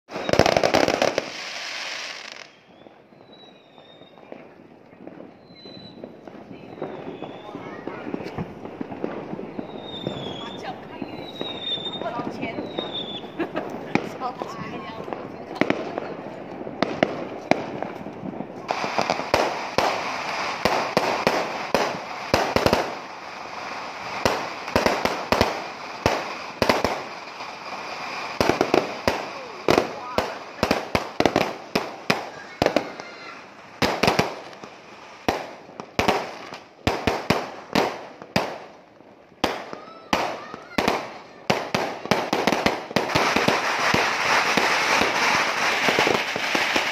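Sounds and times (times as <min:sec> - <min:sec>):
fireworks cracking: 0:00.0 - 0:46.9
fireworks hissing crackle: 0:00.1 - 0:46.9.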